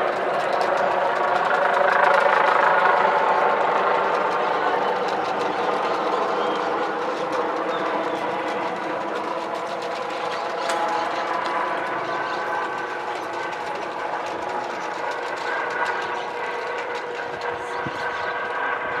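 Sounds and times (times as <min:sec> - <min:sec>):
helicopter rotor drone: 0:00.0 - 0:19.0
high steady whine: 0:00.0 - 0:19.0.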